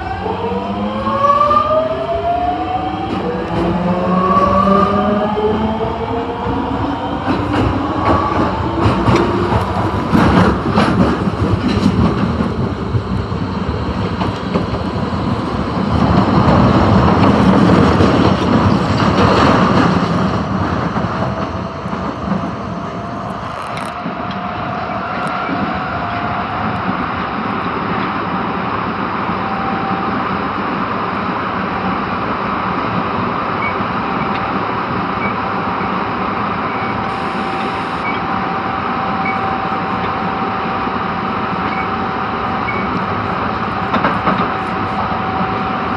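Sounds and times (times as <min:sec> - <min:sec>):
subway car rumbling on rails: 0:00.0 - 0:45.9.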